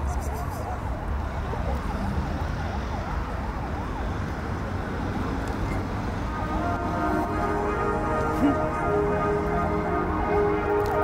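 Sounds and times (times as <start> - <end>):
distant siren yelping: 0.0 - 11.0.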